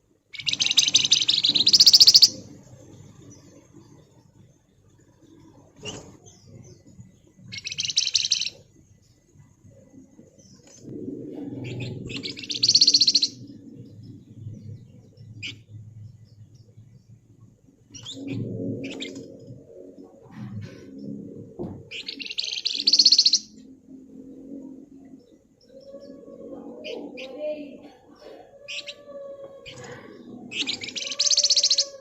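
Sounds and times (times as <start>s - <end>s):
bird chirps: 0.3s - 4.4s, 5.2s - 8.6s, 10.2s - 17.2s, 17.9s - 21.3s, 21.9s - 32.0s.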